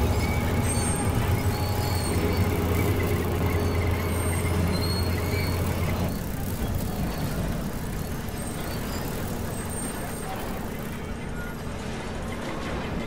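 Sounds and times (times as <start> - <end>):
diesel engine droning: 0.0 - 11.1.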